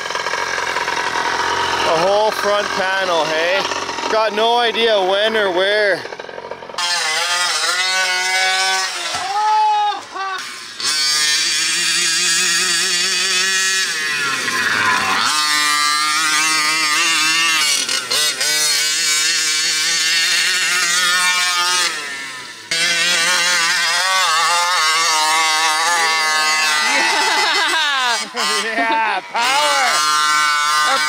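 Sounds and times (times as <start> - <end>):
small two-stroke engine revving: 0.0 - 31.0.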